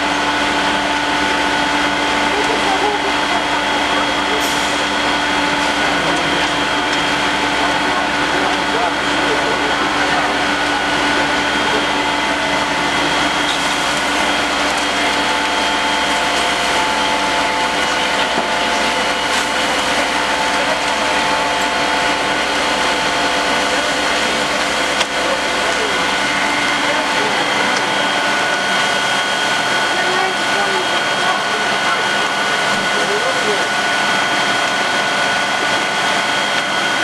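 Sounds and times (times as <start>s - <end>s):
fire engine pumps whining: 0.0s - 37.0s.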